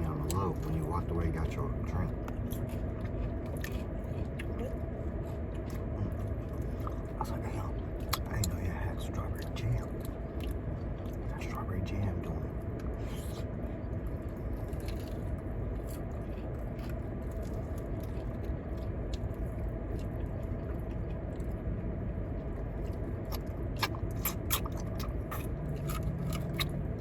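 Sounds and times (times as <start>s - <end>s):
low rumble: 0.0s - 27.0s
person chewing food: 0.0s - 27.0s.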